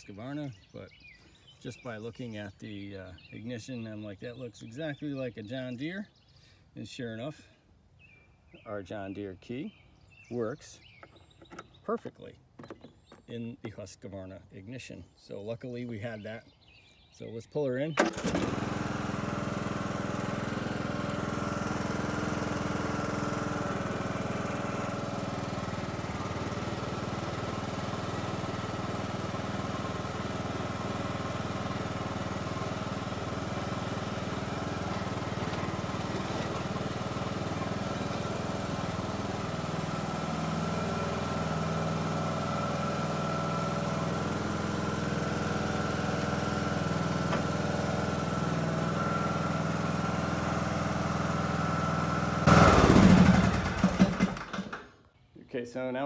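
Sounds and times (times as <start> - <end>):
riding lawn tractor engine: 0.0 - 6.3, 8.5 - 14.1, 17.9 - 55.0.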